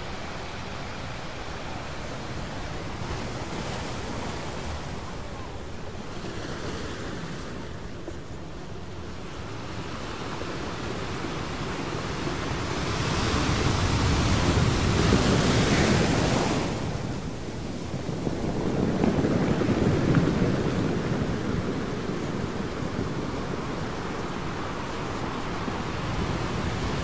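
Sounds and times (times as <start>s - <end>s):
ocean waves breaking: 0.0s - 27.0s.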